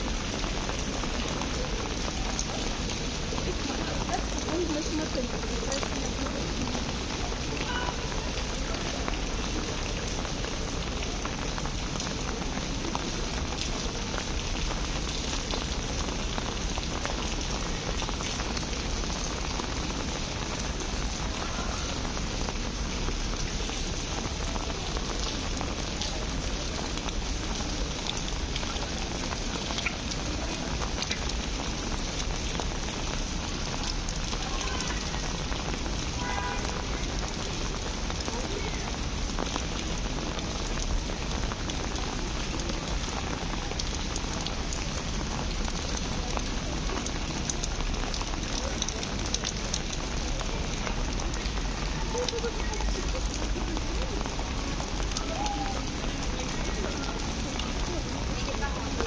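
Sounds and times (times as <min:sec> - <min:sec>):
rain falling on pavement: 0:00.0 - 0:59.0.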